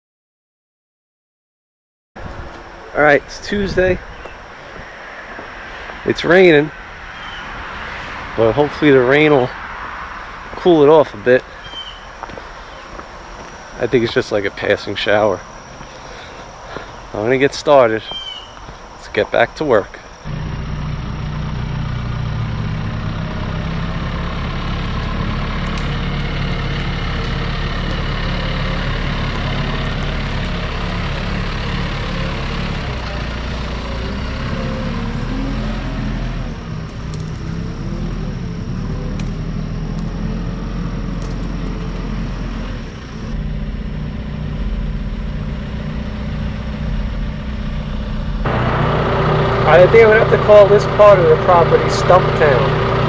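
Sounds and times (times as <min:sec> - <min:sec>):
wavering high whine: 0:02.2 - 0:53.0
diesel engine running under load: 0:02.3 - 0:53.0.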